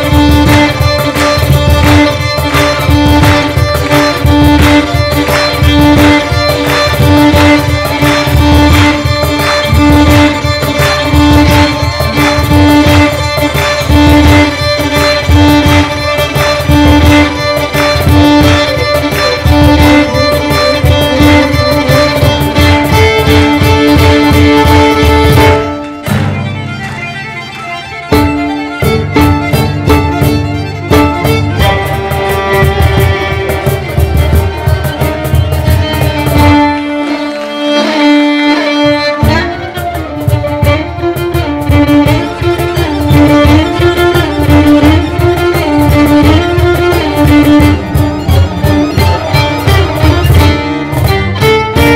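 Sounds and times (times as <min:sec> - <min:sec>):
cajon beat: 0:00.0 - 0:51.9
string ensemble playing: 0:00.0 - 0:51.9.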